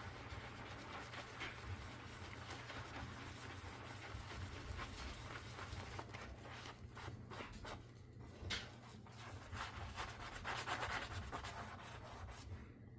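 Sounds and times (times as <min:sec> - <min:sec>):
sponge scrubbing dishes: 0:00.0 - 0:07.9, 0:08.5 - 0:12.5.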